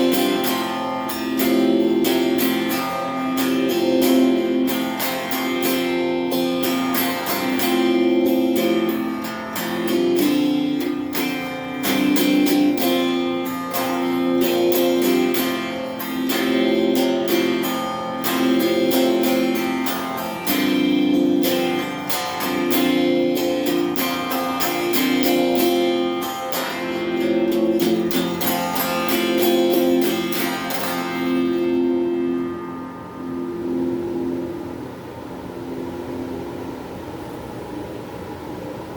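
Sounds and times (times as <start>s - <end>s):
electric guitar strumming chords: 0.0s - 37.4s.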